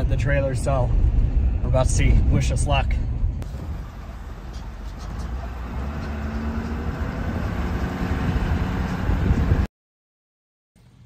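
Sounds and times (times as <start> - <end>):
truck rumbling on dirt road: 0.0 - 9.7.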